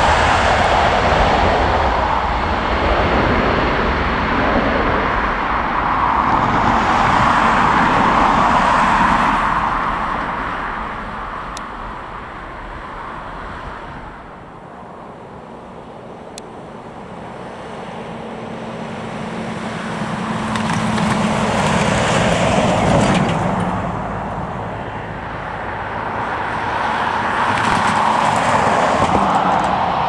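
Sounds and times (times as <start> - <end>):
jet airliner engine rush: 0.0 - 30.0.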